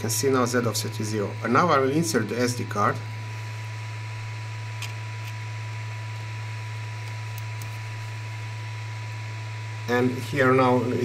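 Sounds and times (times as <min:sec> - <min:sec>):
cooling fans humming: 0:00.0 - 0:11.0.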